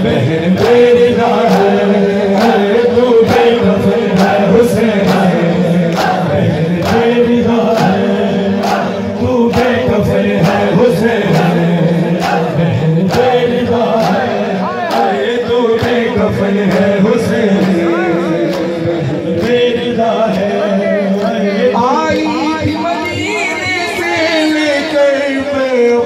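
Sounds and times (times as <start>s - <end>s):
crowd chanting: 0.0s - 25.4s.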